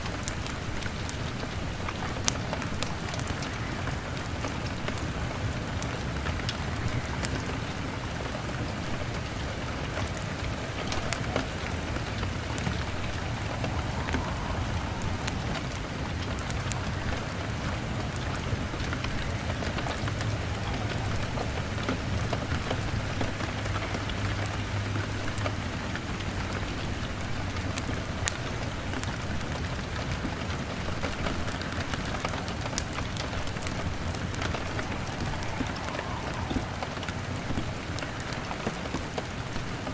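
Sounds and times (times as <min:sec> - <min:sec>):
rain pattering on a window: 0:00.0 - 0:39.9
wood fire crackling: 0:00.0 - 0:39.9.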